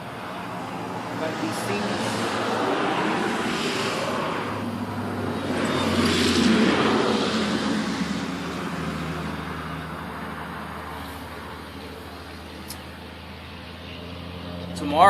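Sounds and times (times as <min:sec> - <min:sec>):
low engine hum: 0:00.0 - 0:15.0
vehicle driving past: 0:00.0 - 0:15.0.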